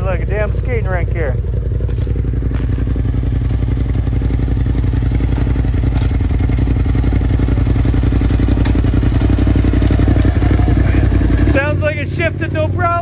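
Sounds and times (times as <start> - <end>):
utility vehicle engine idling: 0.0 - 13.0.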